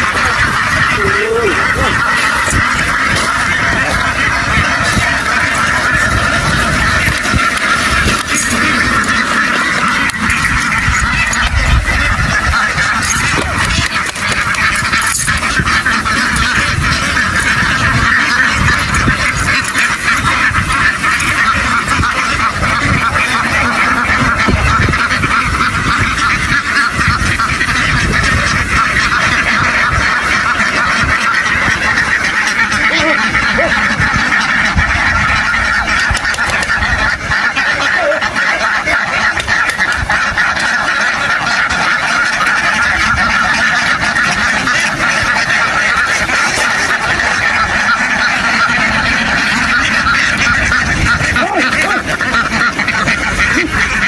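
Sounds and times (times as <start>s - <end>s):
flock of ducks quacking: 0.0s - 54.0s.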